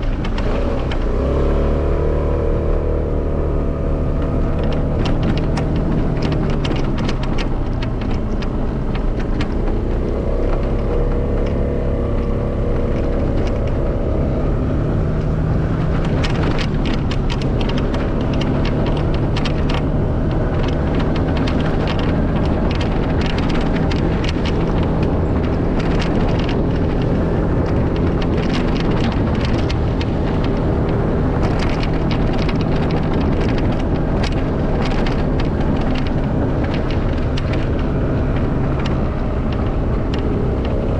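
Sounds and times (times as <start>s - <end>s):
tyre noise: 0.0s - 40.9s
vehicle engine under load: 0.0s - 40.9s
wind buffeting microphone: 0.0s - 40.9s.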